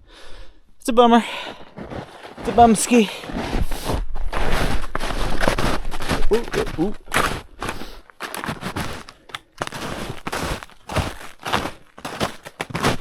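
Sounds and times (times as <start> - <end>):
footsteps crunching through snow: 1.4 - 13.0.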